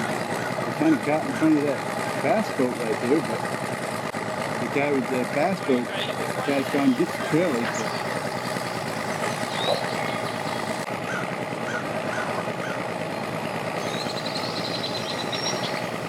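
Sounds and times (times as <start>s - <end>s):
boat engines idling: 0.0s - 16.0s.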